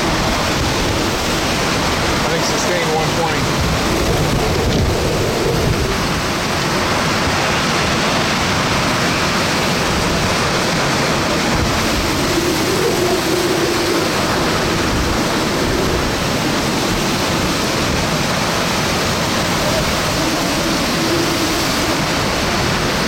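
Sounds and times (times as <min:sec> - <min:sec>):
driving rain: 0:00.0 - 0:23.0
strong wind: 0:00.0 - 0:23.0.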